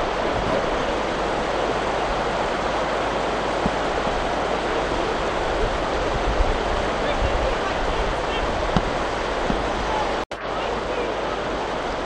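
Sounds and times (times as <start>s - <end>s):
river water rushing over stones: 0.0s - 12.0s.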